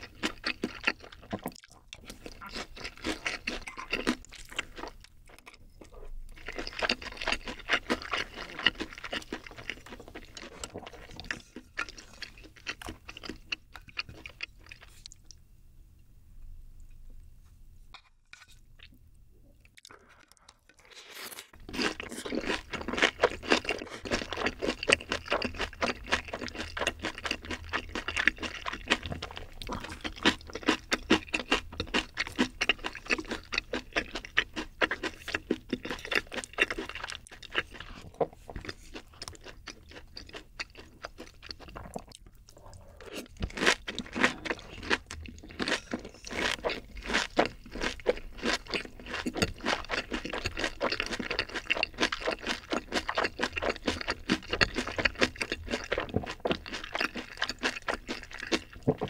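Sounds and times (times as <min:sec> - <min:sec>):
close-miked chewing crunches: 0:00.0 - 0:15.4, 0:19.6 - 0:59.0.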